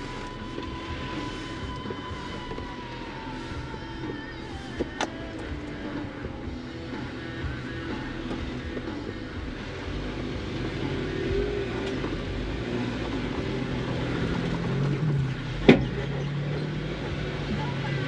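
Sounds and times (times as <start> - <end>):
off-road vehicle engine under load: 0.0 - 18.0.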